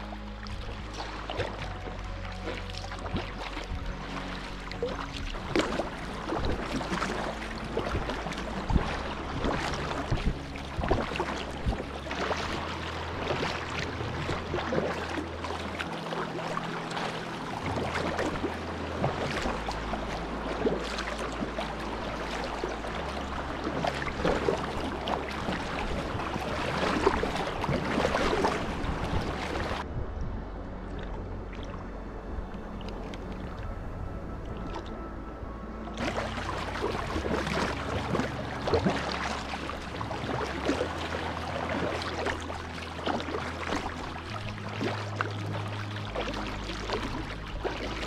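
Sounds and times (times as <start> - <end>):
water washing along hull: 0.0 - 48.0
paddle splashing into water: 0.4 - 29.8, 36.0 - 48.0.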